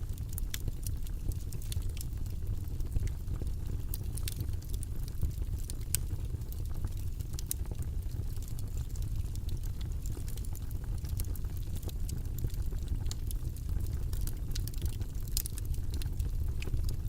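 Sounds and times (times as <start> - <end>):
low rumbling white noise: 0.0 - 17.0.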